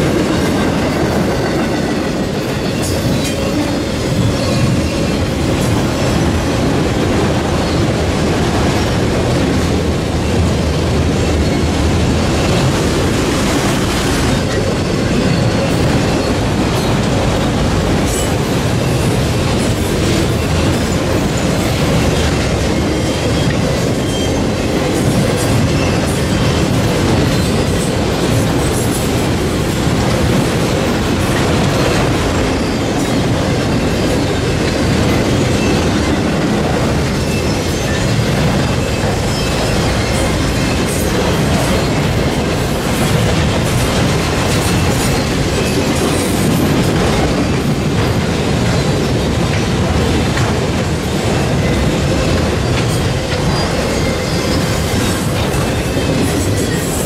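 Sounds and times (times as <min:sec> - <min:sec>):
train wheels clickety-clack: 0:00.0 - 0:57.0.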